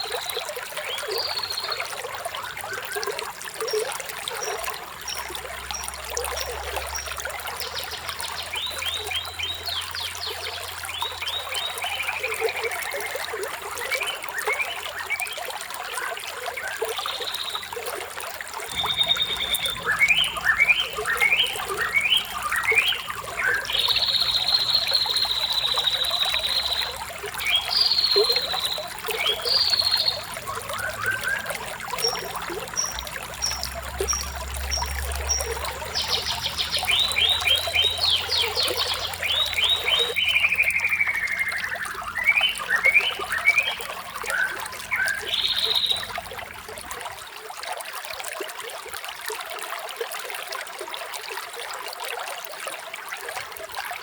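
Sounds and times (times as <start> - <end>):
birds singing: 0.0 - 15.4, 16.6 - 46.6
water trickling: 0.0 - 54.0.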